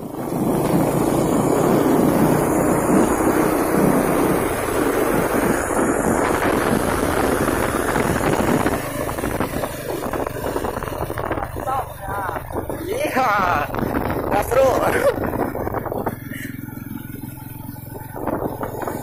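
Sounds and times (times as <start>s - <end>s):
truck engine running: 0.0s - 19.0s
wind buffeting microphone: 0.0s - 19.0s.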